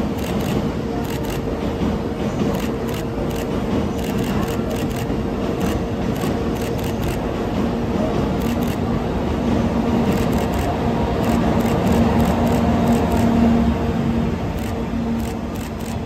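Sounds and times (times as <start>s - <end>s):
locomotive humming: 0.0s - 16.0s
train wheels rumbling on rails: 0.0s - 16.0s.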